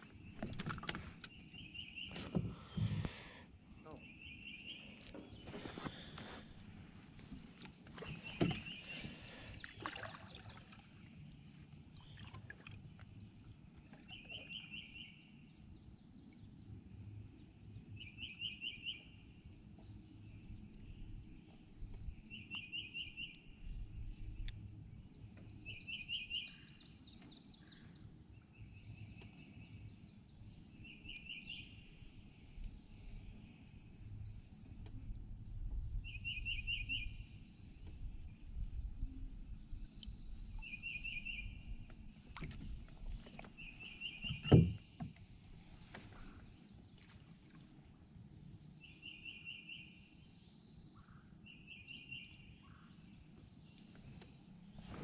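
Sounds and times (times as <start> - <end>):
high insect hum: 0.0 - 55.0.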